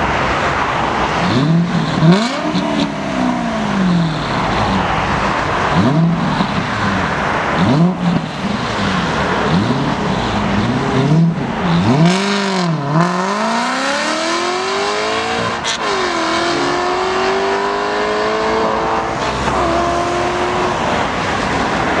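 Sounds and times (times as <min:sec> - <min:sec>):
car engine accelerating hard: 0:01.2 - 0:22.0.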